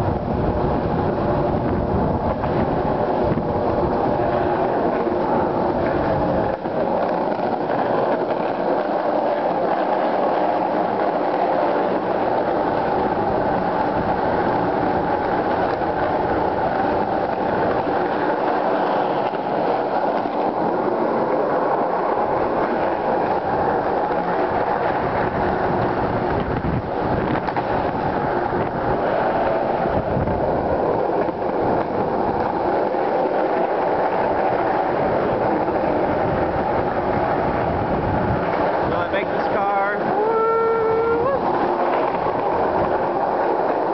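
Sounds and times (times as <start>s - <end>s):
skateboard wheels rolling on concrete: 0.0s - 43.9s.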